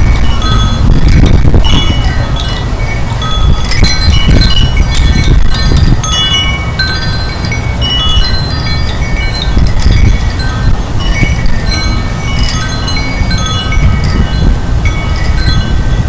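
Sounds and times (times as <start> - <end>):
wind chimes clinking: 0.0 - 16.0
wind rumble on microphone: 0.0 - 16.0.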